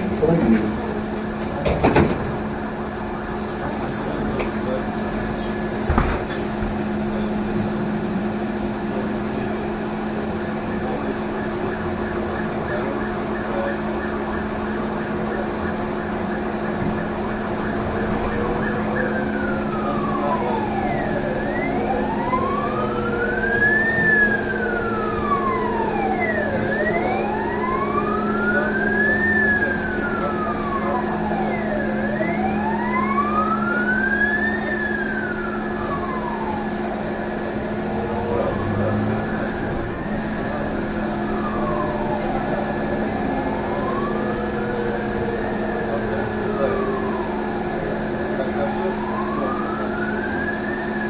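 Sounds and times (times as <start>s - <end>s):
emergency siren wailing: 0.0s - 51.0s
trolleybus humming: 0.0s - 51.0s.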